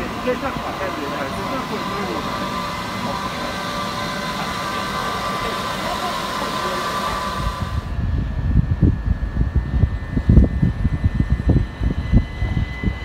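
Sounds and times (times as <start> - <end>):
train high whining tones: 0.0 - 13.0.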